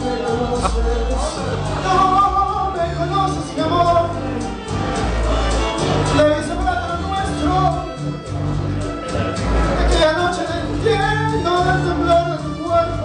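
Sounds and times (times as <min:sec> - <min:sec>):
man singing into microphone: 0:00.0 - 0:08.2, 0:09.7 - 0:13.0
backing music with bass line: 0:00.0 - 0:13.0.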